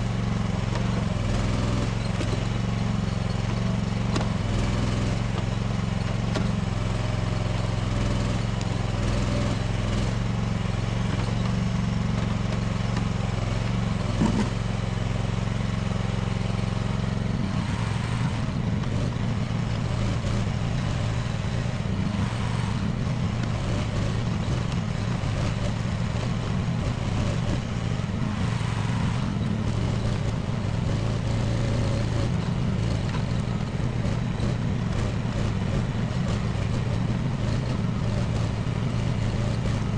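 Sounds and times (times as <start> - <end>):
small excavator engine running: 0.0 - 39.9.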